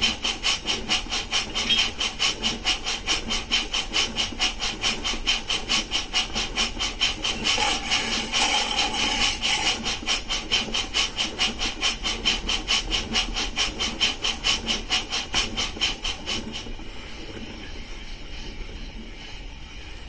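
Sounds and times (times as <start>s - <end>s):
model train steam chuffs: 0.0s - 20.0s.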